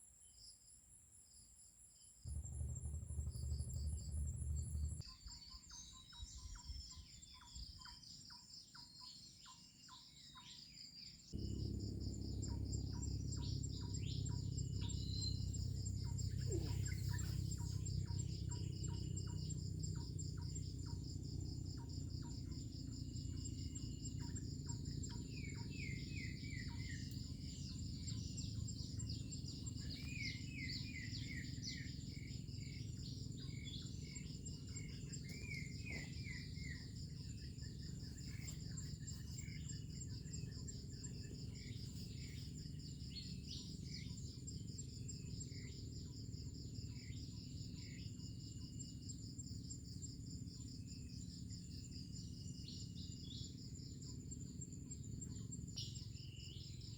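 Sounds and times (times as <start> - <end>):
insects chorus: 0.0 - 56.9
bird chirping: 2.3 - 56.9.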